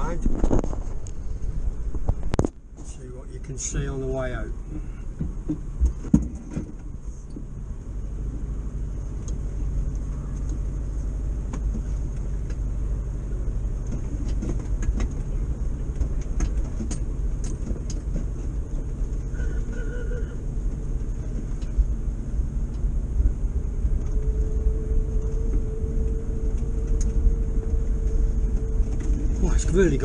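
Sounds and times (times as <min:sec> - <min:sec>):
bus engine rumbling: 0:00.0 - 0:30.0.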